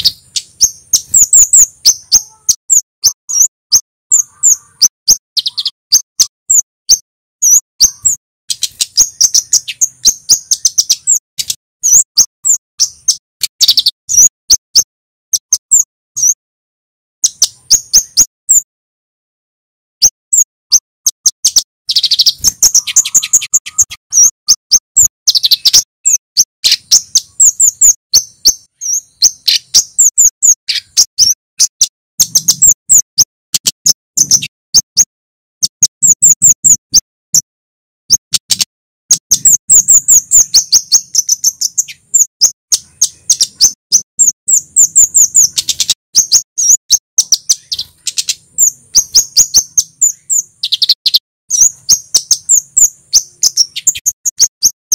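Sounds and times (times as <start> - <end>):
bird calling high sharp chips: 0.0 - 16.4, 17.2 - 18.7, 20.0 - 37.5, 38.1 - 54.9.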